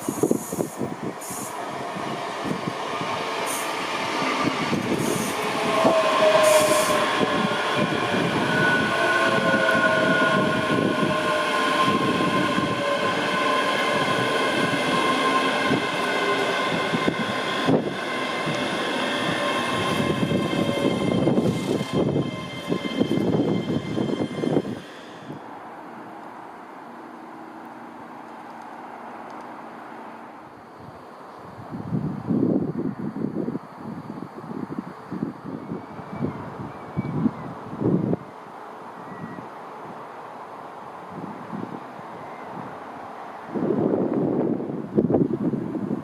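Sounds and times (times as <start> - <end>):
train rumbling through station: 0.0 - 46.0.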